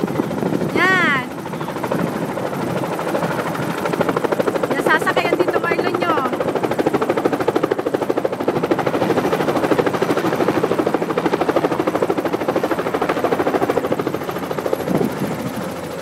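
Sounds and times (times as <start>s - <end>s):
helicopter rotor beating: 0.0s - 16.0s.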